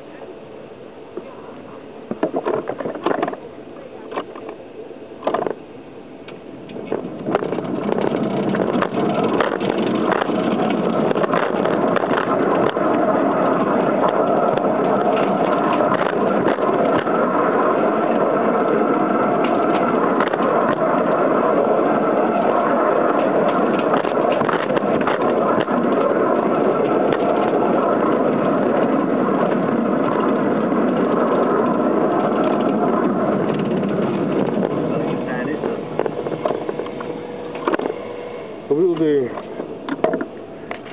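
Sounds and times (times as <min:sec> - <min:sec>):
model locomotive running on track: 0:06.4 - 0:40.9.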